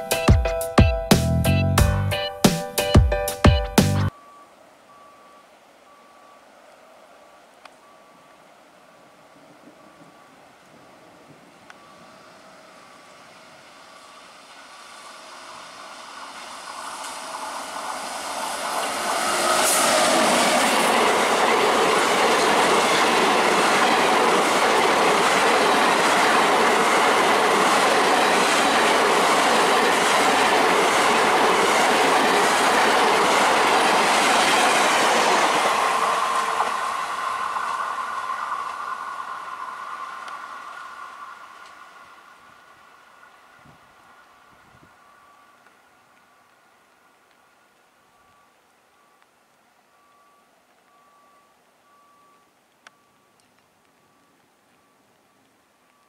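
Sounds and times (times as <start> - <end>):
passenger train passing: 0.0 - 48.5.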